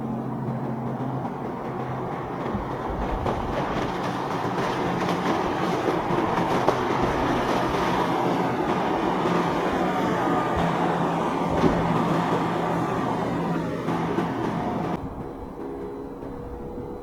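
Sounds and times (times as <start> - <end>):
boat engine drone: 0.0 - 17.0
wind noise: 0.0 - 17.0
rushing water: 0.1 - 15.0.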